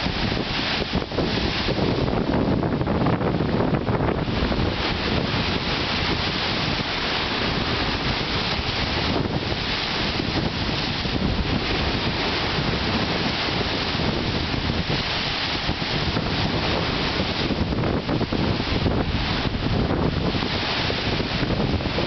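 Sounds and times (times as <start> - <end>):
waves splashing on gravel shore: 0.0 - 22.0
wind buffeting microphone: 0.0 - 22.0.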